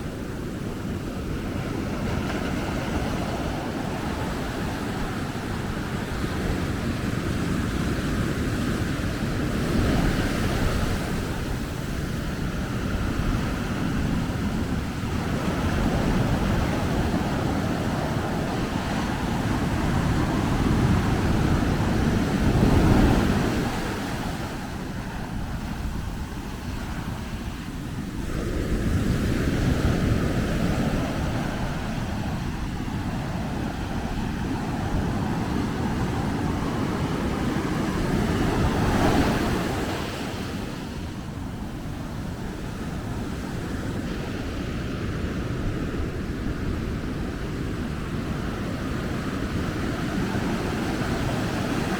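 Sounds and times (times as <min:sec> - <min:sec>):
ocean surf breaking: 0:00.0 - 0:51.9
wind rumbling on microphone: 0:00.0 - 0:51.9.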